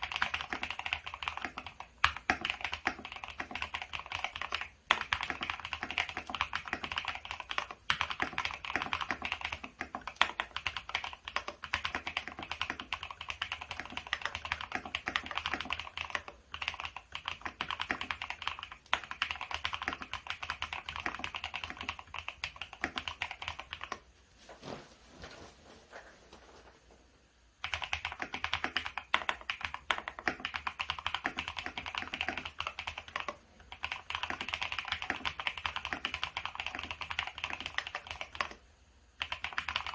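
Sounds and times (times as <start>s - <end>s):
mechanical keyboard typing: 0.0s - 24.0s, 27.6s - 38.6s, 39.2s - 39.9s.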